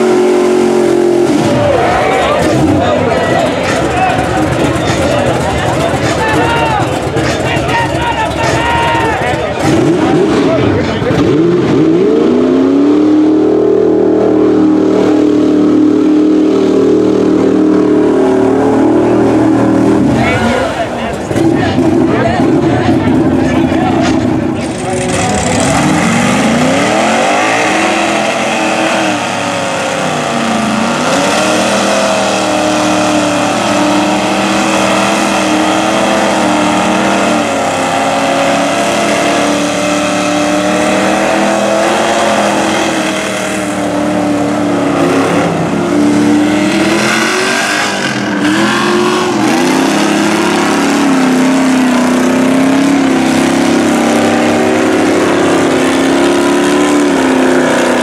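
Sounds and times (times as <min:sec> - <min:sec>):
truck engines revving: 0:00.0 - 0:58.0.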